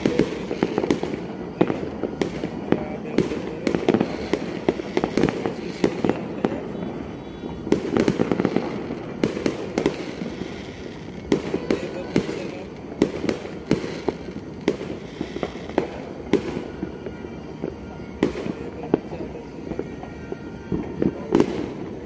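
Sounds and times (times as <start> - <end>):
fireworks bangs and pops: 0.0 - 22.0
fireworks crackling: 0.0 - 22.0.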